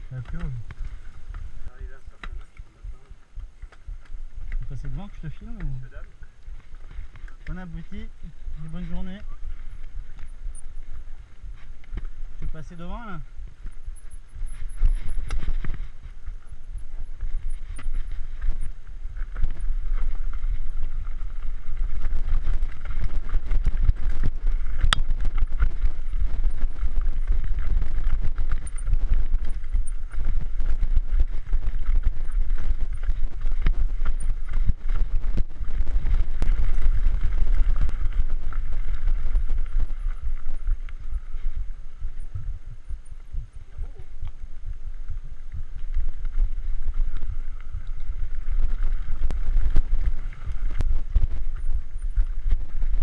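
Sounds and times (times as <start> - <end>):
bike rattling and knocking: 0.0 - 53.0
wind rumble on microphone: 0.0 - 53.0.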